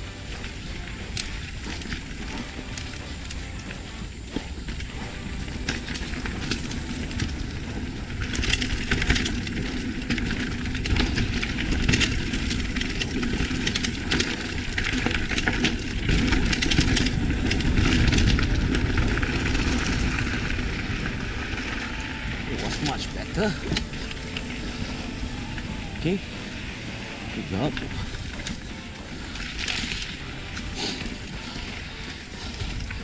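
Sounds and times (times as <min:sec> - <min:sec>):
bike rattling: 0:00.0 - 0:33.0
bike tyres crunching on dirt: 0:00.0 - 0:33.0
wind on microphone: 0:00.8 - 0:33.0.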